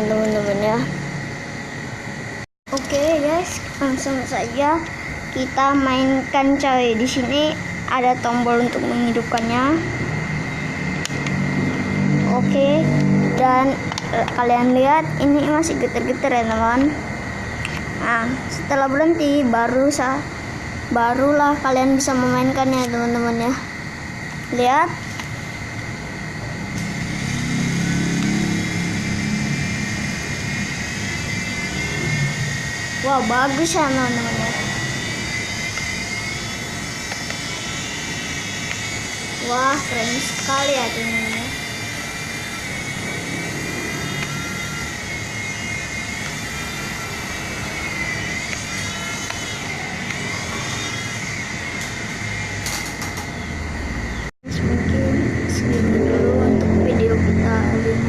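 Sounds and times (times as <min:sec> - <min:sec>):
toy helicopter motor buzzing: 0:02.7 - 0:17.0, 0:17.7 - 0:58.0.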